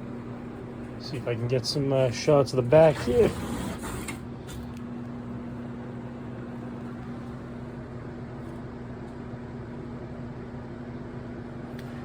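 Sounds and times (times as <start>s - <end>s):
box fan running: 0.0s - 12.0s.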